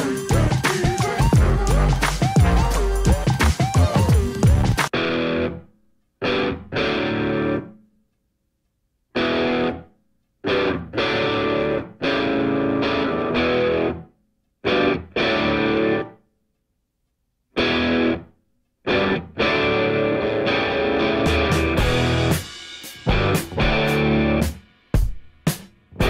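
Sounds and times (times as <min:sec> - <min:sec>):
distorted electric guitar blues chords: 0:00.0 - 0:07.8, 0:09.2 - 0:16.2, 0:17.6 - 0:18.3, 0:18.9 - 0:25.1.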